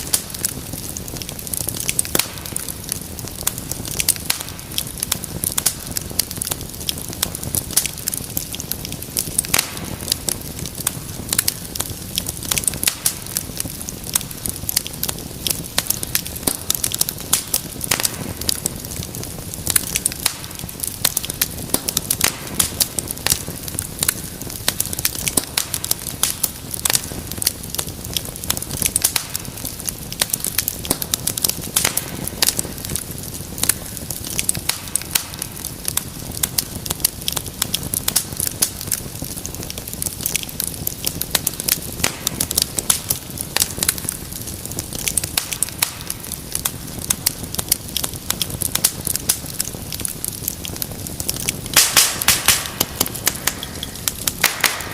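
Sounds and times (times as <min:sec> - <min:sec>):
fire crackling and popping: 0:00.0 - 0:54.9
low rumble of flame: 0:00.0 - 0:54.9.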